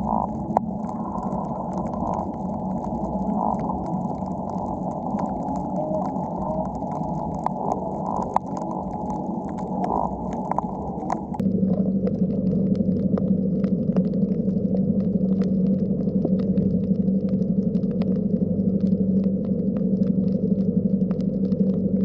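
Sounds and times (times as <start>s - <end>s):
low underwater rushing: 0.0s - 22.0s
sharp underwater clicks: 0.0s - 22.0s
steady low hum: 0.0s - 22.0s.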